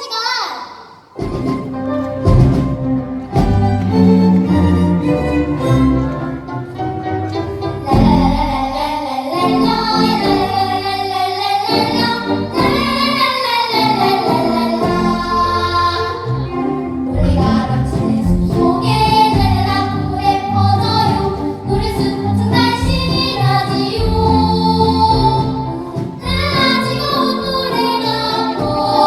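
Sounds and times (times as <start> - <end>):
musical backing: 1.0 - 29.0
children singing: 1.2 - 29.0.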